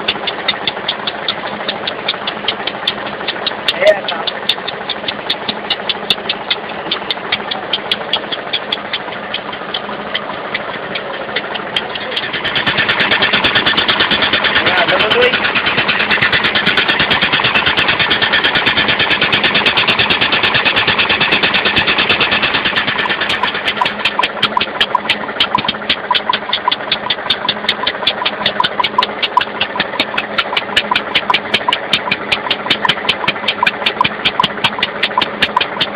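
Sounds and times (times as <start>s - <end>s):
air engine rapid air puffs: 0.0s - 35.9s.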